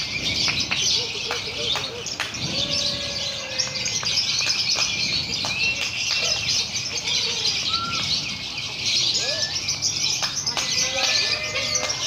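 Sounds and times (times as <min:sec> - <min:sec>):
lovebirds chattering: 0:00.0 - 0:12.0
whistled bird notes: 0:00.0 - 0:12.0.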